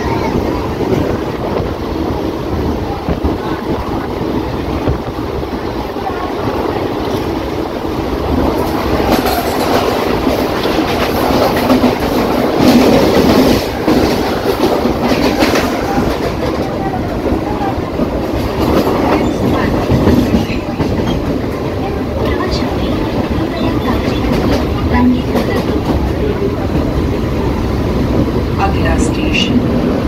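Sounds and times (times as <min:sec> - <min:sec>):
clickety-clack over rail joints: 0:00.0 - 0:30.0
train wheels rumbling on rails: 0:00.0 - 0:30.0.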